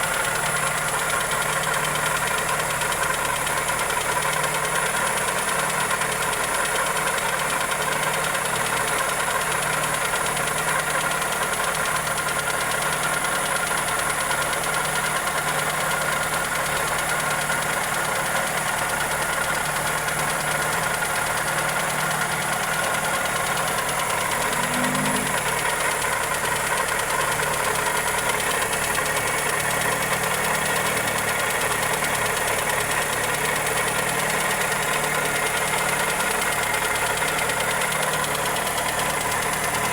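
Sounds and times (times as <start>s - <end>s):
engine idling with ticking knock: 0.0s - 39.9s.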